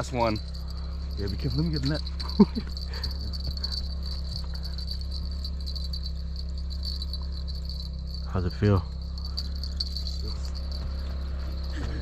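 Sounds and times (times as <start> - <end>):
crickets chirping: 0.0 - 12.0
low steady hum: 0.0 - 12.0.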